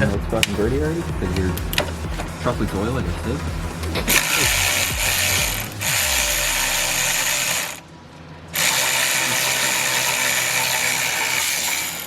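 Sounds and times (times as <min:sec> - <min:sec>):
power ratchet running: 0:00.0 - 0:07.8, 0:08.6 - 0:12.0.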